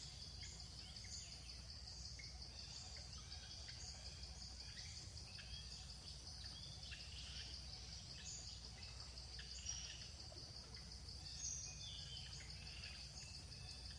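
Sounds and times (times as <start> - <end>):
high insect drone: 0.0 - 13.9.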